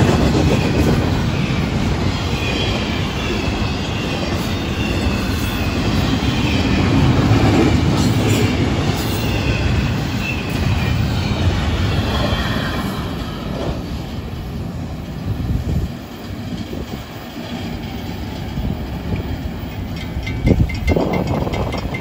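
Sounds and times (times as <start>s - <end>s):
train cars rumbling: 0.0s - 22.0s.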